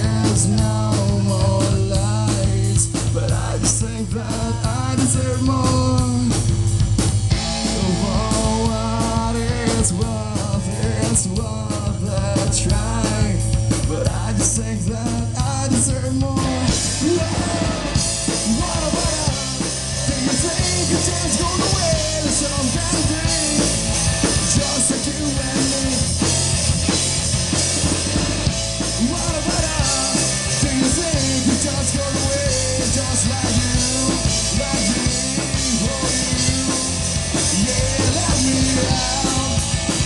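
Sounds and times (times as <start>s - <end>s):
sung vocals: 0.0s - 27.0s, 28.4s - 40.0s
live rock band playing: 0.0s - 40.0s.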